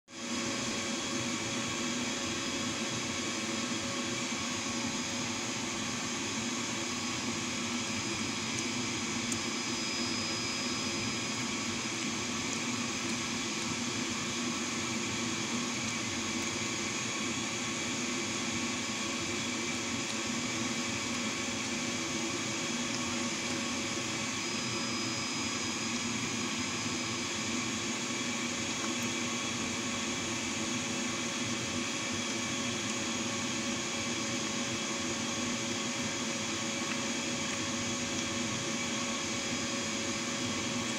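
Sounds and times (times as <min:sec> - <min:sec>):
machine hum and hiss: 0:00.1 - 0:40.9.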